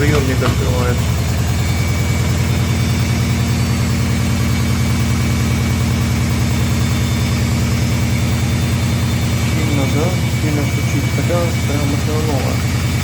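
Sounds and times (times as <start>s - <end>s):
washing machine spinning and knocking: 0.0s - 13.0s.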